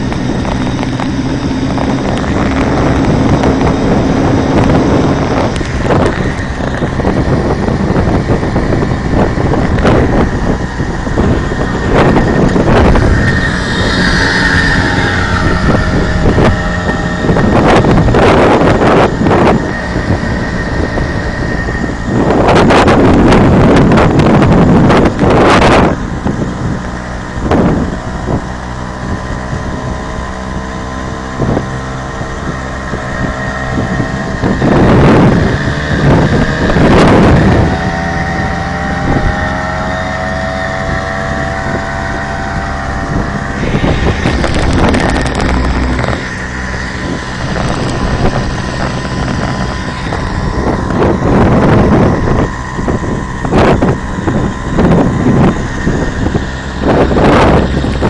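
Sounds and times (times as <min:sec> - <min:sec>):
moped two-stroke engine running: 0:00.0 - 0:58.0
wind buffeting microphone: 0:00.0 - 0:58.0.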